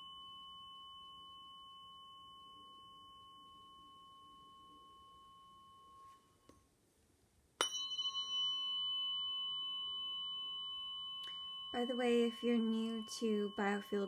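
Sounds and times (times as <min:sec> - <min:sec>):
tuning fork ringing: 0:00.0 - 0:06.7, 0:07.6 - 0:14.0
tuning fork struck: 0:00.0 - 0:06.7, 0:07.6 - 0:14.0.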